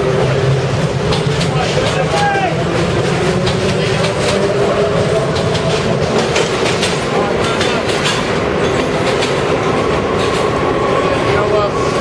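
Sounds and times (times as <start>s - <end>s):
moving train hum: 0.0s - 12.0s
train wheels clacking over rail joints: 0.0s - 12.0s.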